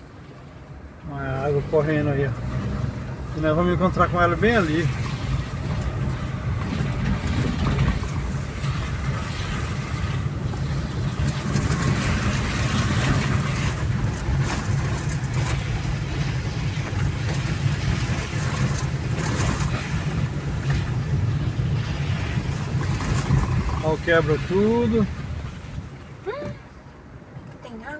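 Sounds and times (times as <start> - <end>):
vehicle engine and road rumble: 0.0 - 27.9.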